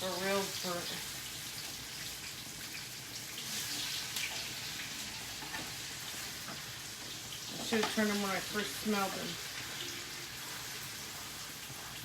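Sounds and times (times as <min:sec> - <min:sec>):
patties sizzling in oil: 0:00.0 - 0:12.0.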